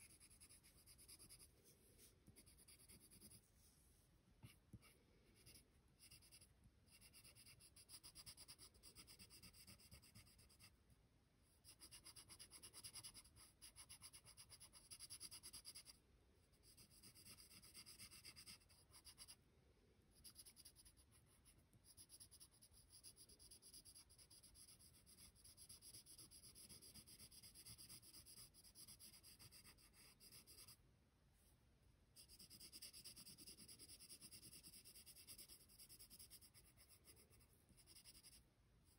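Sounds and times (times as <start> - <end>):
pencil scratching on paper: 0.0 - 3.7, 4.4 - 10.8, 11.6 - 19.4, 20.1 - 30.8, 32.2 - 38.9.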